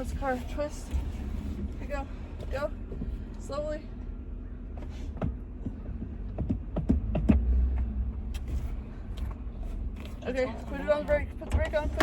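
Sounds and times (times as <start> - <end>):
truck engine rumble: 0.0 - 12.0.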